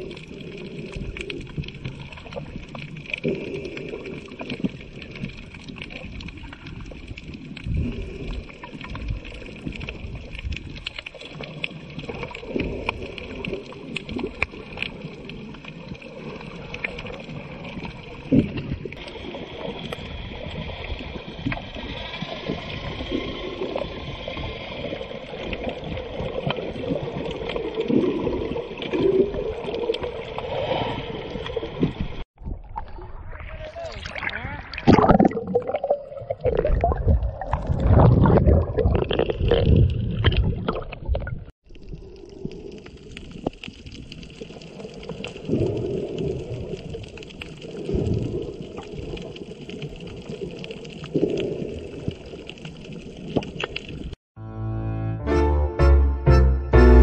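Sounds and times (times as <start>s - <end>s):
muffled underwater water gurgle: 0.0s - 54.2s.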